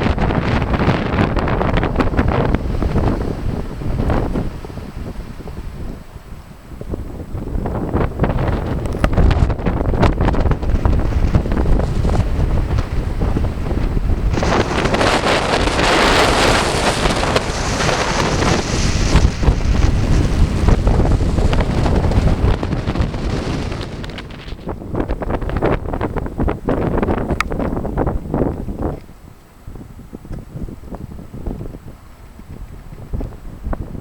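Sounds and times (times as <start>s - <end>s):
strong gusting wind on microphone: 0.0s - 34.0s.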